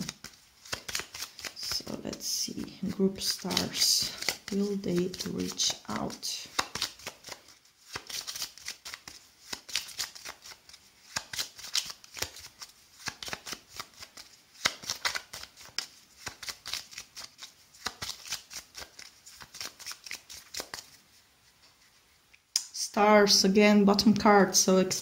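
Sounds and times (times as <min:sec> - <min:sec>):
cards being shuffled: 0:00.0 - 0:21.1.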